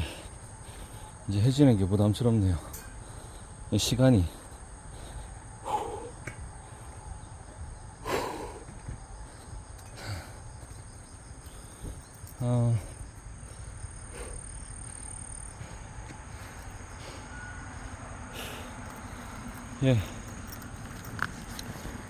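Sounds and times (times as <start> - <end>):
insect chorus trilling: 0.0 - 22.0.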